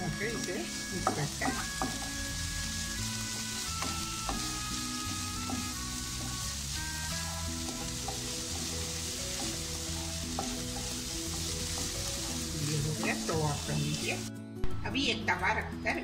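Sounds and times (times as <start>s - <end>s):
vegetables sizzling in oil: 0.0s - 14.3s
light background music: 0.0s - 16.0s
spatula stirring: 0.8s - 14.3s.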